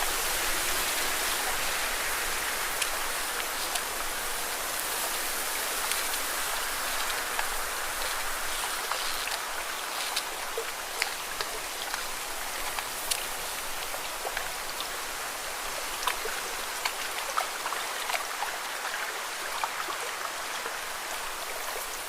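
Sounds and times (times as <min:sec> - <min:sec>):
water splashing against rocks: 0:00.0 - 0:21.8
water drips: 0:00.3 - 0:22.0.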